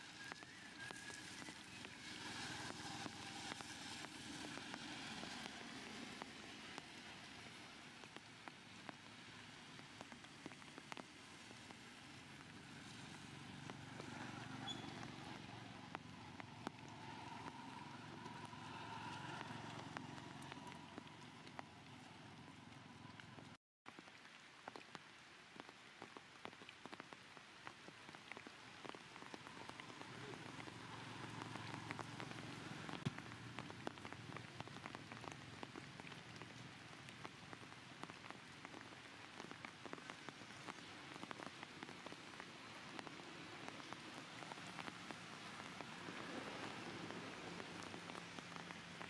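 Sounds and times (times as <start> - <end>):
light rain and water drops: 0.0 - 49.0.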